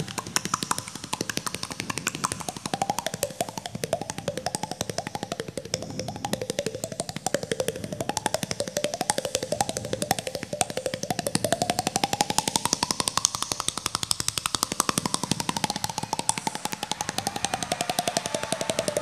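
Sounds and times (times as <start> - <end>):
gliding sustained tone: 0.0 - 19.0
rapid percussion strokes: 0.0 - 19.0.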